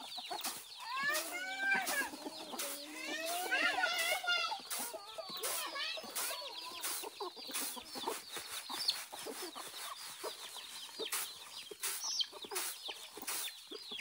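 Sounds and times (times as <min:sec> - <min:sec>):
chickens clucking: 0:00.0 - 0:14.0
high peeping calls: 0:00.0 - 0:14.0.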